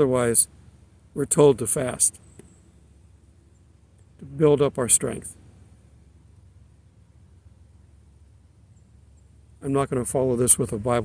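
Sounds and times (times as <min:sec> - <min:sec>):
faint low hum with hiss: 0:00.0 - 0:11.0.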